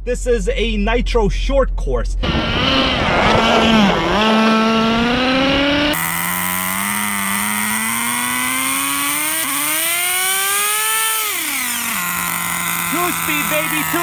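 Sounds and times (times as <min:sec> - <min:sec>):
small nitro engine revving: 0:02.2 - 0:14.0.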